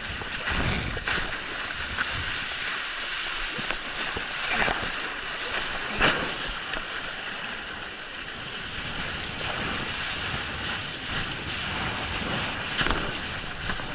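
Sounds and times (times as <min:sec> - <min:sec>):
sea surf washing: 0:00.0 - 0:13.9
wind on microphone: 0:00.0 - 0:13.9.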